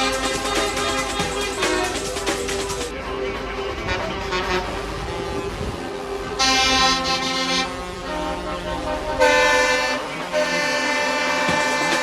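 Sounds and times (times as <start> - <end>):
truck air horn: 0.0 - 2.8, 3.7 - 12.0
lorry engines rumbling: 0.0 - 12.0.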